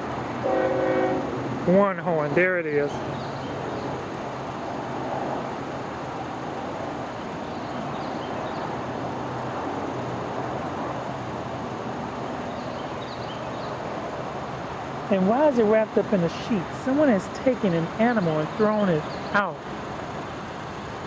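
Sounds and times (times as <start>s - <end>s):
distant train rumble: 0.0s - 21.0s.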